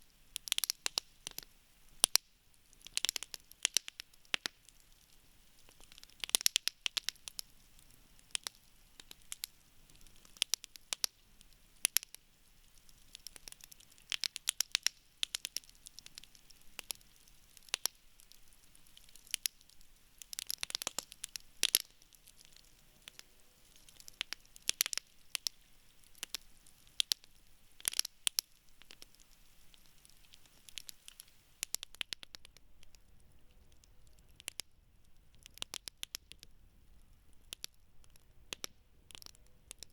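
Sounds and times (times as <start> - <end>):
campfire crackling and popping: 0.0 - 39.9
faint hiss of burning: 0.0 - 39.9.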